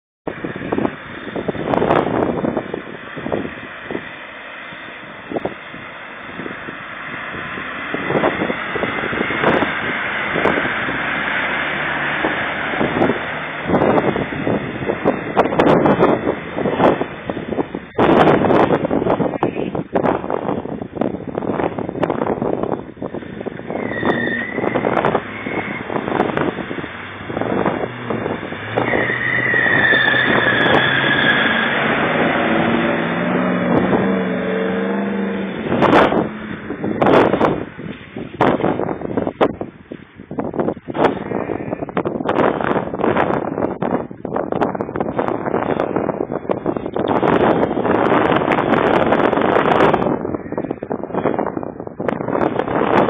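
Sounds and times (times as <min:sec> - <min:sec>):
wind on microphone: 0:00.2 - 0:53.0
engine running under load: 0:00.3 - 0:53.0
water splashing around wheels: 0:00.3 - 0:53.0.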